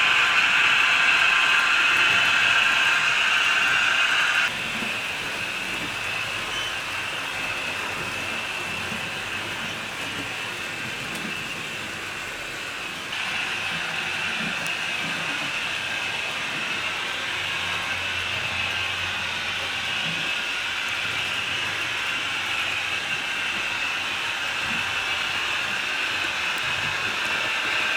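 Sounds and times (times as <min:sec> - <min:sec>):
model train whirring on rails: 0:00.0 - 0:27.9.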